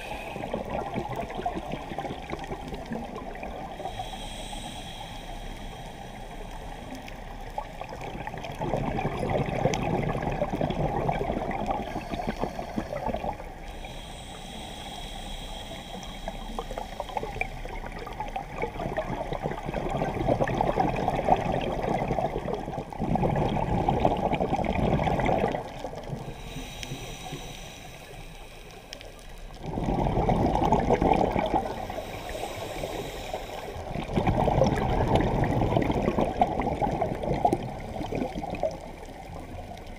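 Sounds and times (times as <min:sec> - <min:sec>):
exhaled bubbles gurgling: 0:00.0 - 0:04.9, 0:05.6 - 0:39.9.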